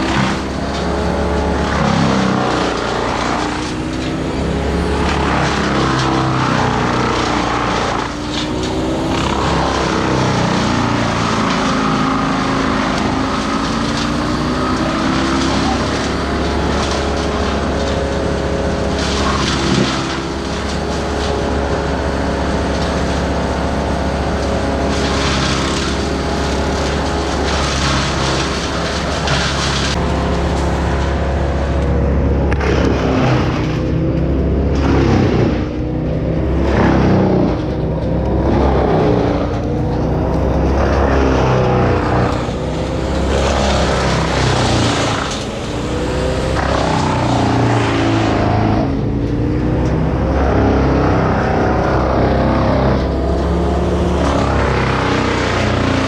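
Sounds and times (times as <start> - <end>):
small petrol engines revving: 0.0 - 56.0.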